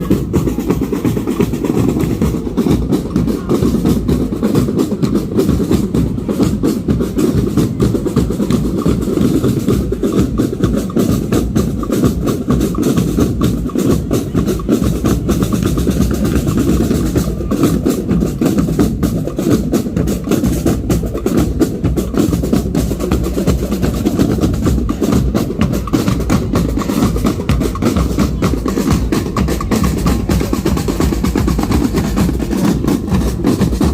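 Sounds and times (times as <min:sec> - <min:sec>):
bass drums: 0:00.0 - 0:33.9
snare drums: 0:00.0 - 0:33.9.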